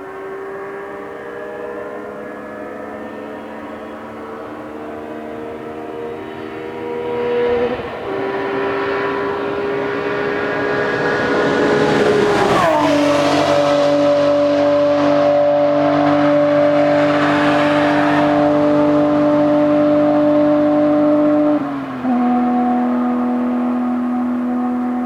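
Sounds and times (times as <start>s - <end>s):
car engine droning at speed: 0.0s - 25.0s.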